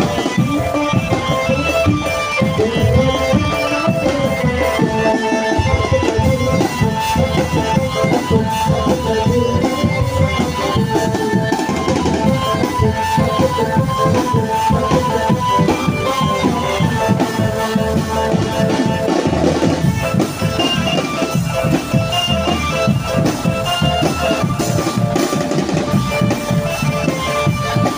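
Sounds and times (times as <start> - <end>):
marching drums: 0.0 - 27.9
melody line: 0.0 - 27.9.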